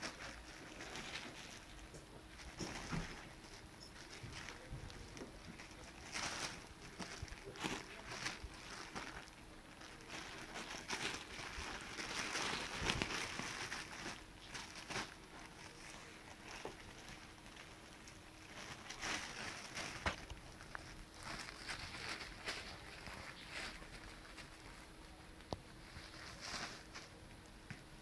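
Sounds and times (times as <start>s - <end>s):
plastic wrapping crinkling: 0.0s - 28.0s.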